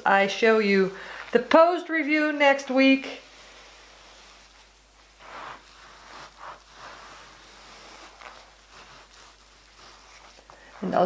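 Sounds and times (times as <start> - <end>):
towel rubbing scrubbing rustle: 0.1 - 11.0.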